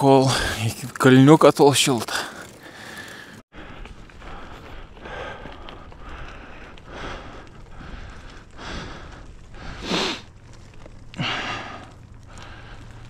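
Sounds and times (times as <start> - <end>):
cyclist breathing hard: 2.2 - 13.0.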